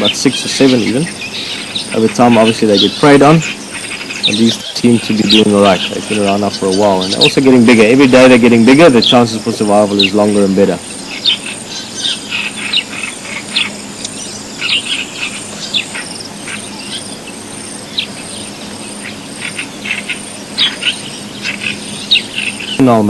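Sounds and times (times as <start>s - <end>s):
birds chirping: 0.0s - 23.0s
insect trilling: 0.0s - 23.0s.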